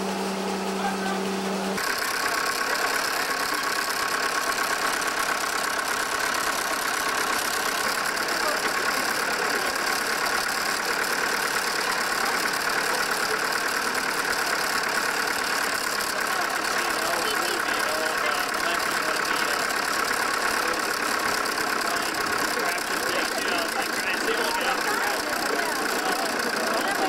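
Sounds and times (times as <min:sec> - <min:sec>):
threshing machine whirring: 0:00.0 - 0:27.0.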